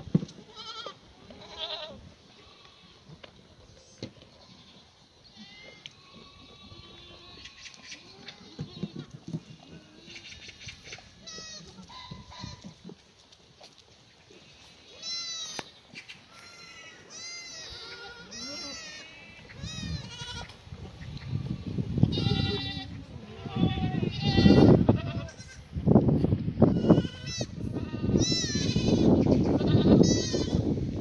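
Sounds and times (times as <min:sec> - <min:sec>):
goats bleating: 0:00.4 - 0:12.9, 0:14.4 - 0:15.6, 0:16.3 - 0:25.8, 0:26.6 - 0:30.7.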